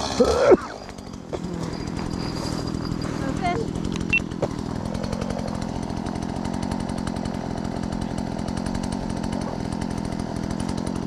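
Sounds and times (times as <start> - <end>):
chainsaw cutting ice: 0.0 - 11.0.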